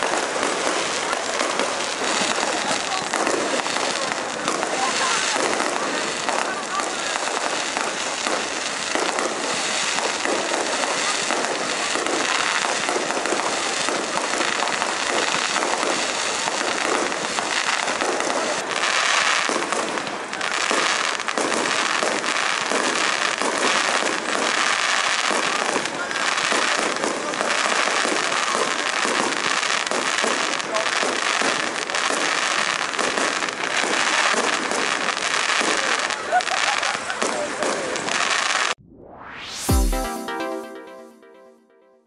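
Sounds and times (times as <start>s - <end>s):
fireworks crackling and popping: 0.0s - 38.8s, 39.4s - 41.2s.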